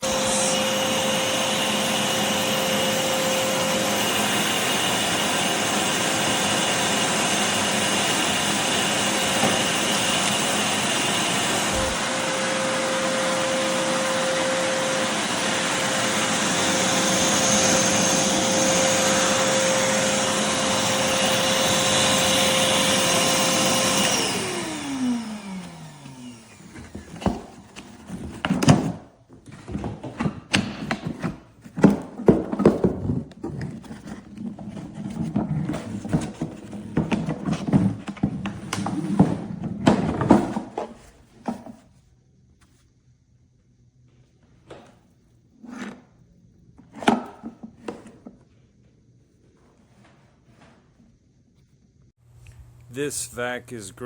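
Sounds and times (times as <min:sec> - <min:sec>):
shop vacuum running: 0:00.0 - 0:42.0, 0:46.8 - 0:48.6, 0:52.2 - 0:54.0.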